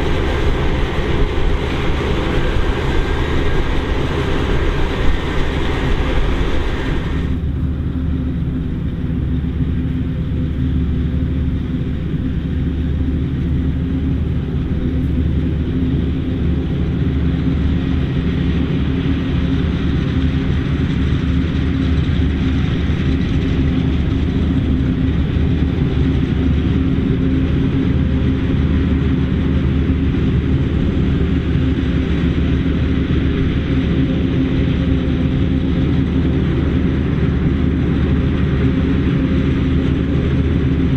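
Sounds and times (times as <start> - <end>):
forage harvester engine drone: 0.0 - 40.9.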